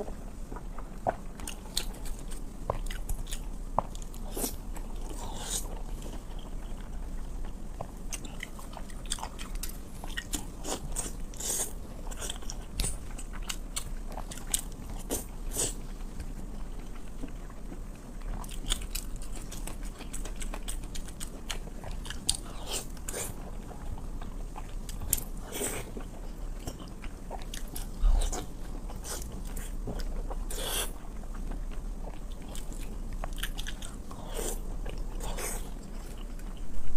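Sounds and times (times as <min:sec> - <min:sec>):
person chewing food: 0:00.0 - 0:36.8.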